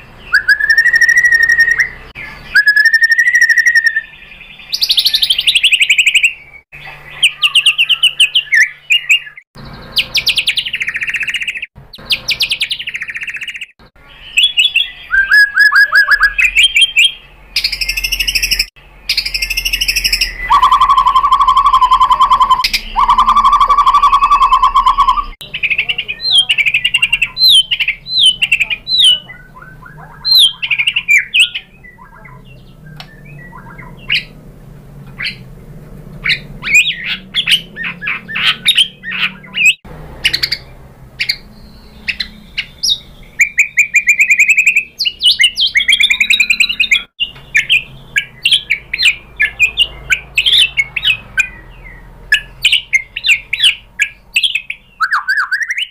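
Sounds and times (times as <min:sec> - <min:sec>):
bird singing trills and whistles: 0:00.0 - 0:34.4, 0:35.1 - 0:35.5, 0:36.2 - 0:55.9.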